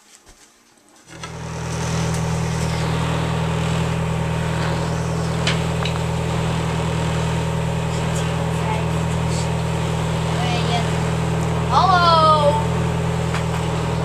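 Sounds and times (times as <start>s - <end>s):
boat engine droning: 1.1s - 14.0s.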